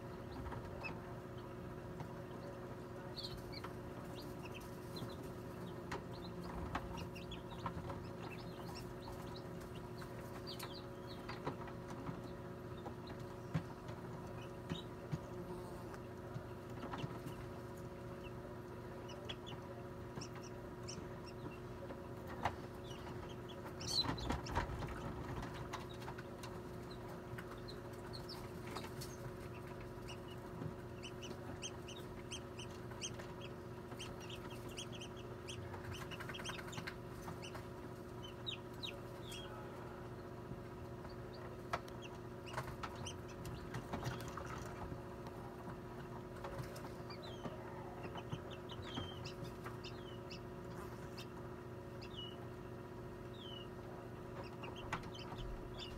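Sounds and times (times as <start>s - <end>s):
chicks peeping: 0.0s - 55.9s
incubator humming: 0.0s - 55.9s.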